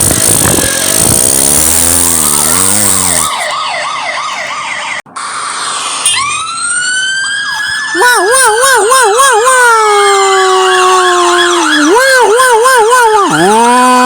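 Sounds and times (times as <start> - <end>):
police siren: 2.6 - 14.0.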